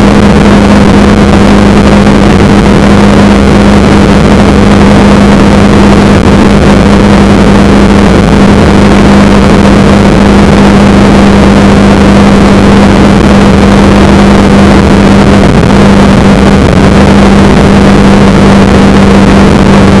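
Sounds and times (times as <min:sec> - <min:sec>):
motorcycle engine drone: 0:00.0 - 0:20.0
rushing wind noise: 0:00.0 - 0:20.0.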